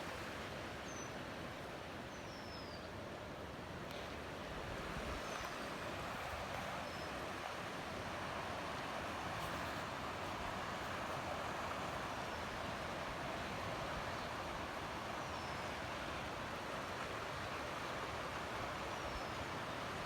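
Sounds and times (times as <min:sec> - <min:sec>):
river water rushing: 0:03.0 - 0:20.0.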